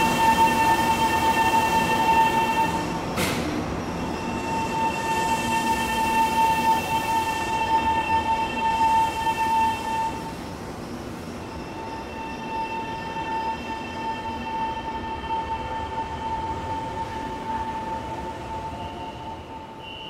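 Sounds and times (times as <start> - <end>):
electric train rumble and hiss: 0.0 - 20.0.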